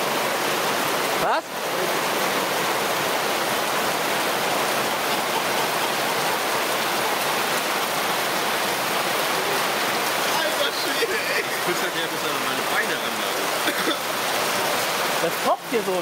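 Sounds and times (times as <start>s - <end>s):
heavy rain on tent canopy: 0.0s - 16.0s.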